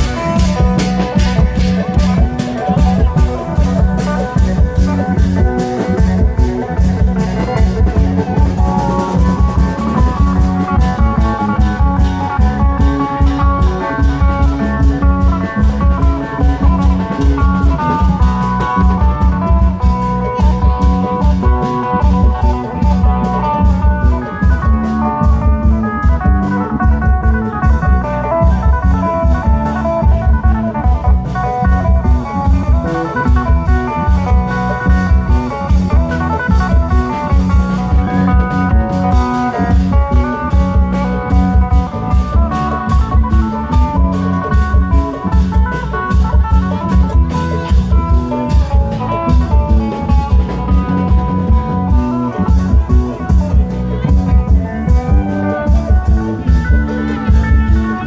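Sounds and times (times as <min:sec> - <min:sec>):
fast heavy drum beat: 0:00.0 - 0:58.0
plucked guitar-like melody: 0:00.0 - 0:58.0.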